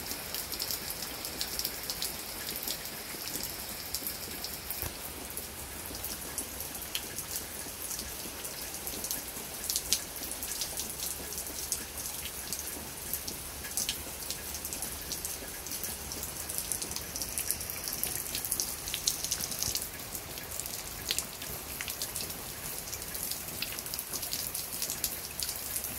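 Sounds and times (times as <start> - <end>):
heavy rain on paving and leaves: 0.0 - 25.9.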